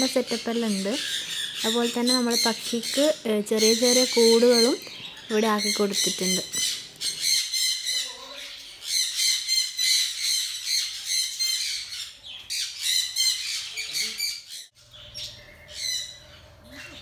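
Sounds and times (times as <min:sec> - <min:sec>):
parrots screeching: 0:00.2 - 0:17.0.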